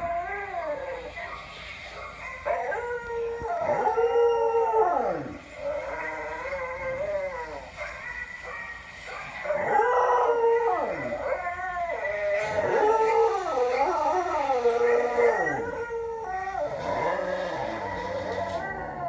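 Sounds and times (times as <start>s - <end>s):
dog howling: 0.0s - 19.0s
recorded dog howls playing: 0.0s - 19.0s.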